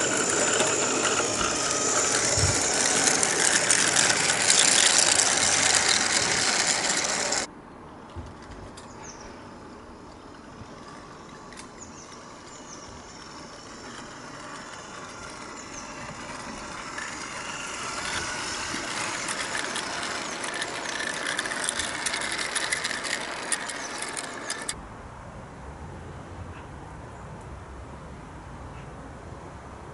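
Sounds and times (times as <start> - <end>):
model locomotive motor whirring: 0.0 - 7.5, 8.3 - 24.8
wagon wheels clicking on track: 0.0 - 7.5, 8.3 - 24.8.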